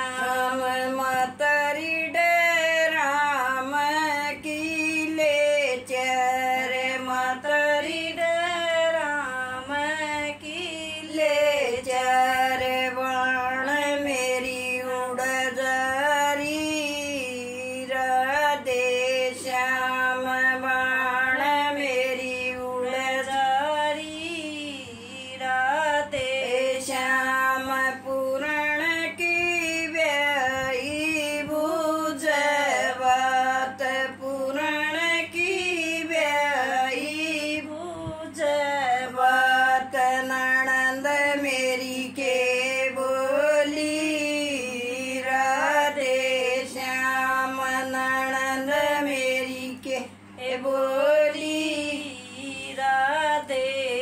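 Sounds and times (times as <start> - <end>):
elderly woman singing unaccompanied: 0.0 - 54.0.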